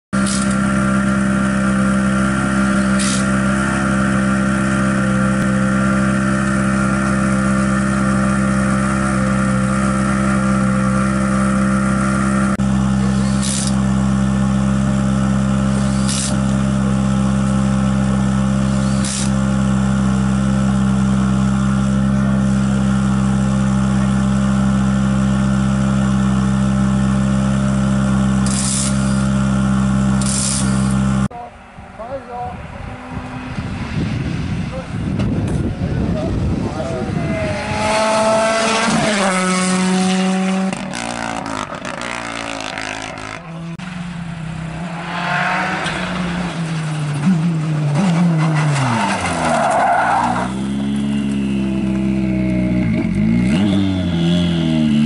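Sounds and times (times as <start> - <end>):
engine droning: 0.1 - 55.0.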